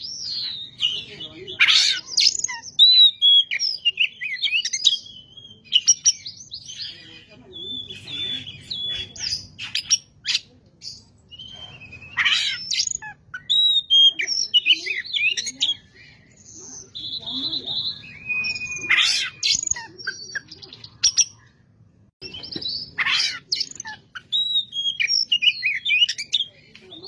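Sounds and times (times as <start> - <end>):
bird singing whistles and trills: 1.9 - 10.4, 11.3 - 21.4, 22.2 - 23.0, 23.6 - 26.5.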